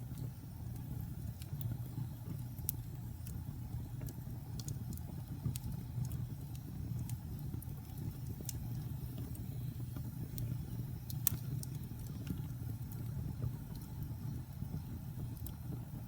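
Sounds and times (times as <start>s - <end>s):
wood fire rumbling and crackling: 0.0s - 16.0s.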